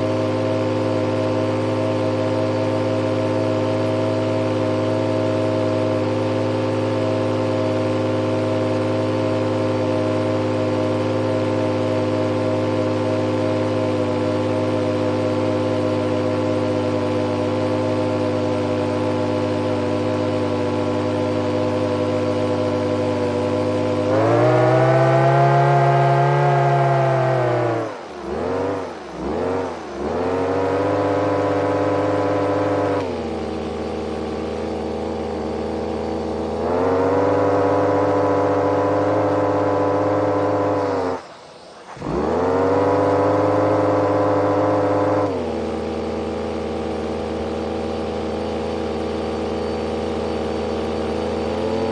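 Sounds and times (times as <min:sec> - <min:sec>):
small engine buzzing: 0:00.0 - 0:51.9.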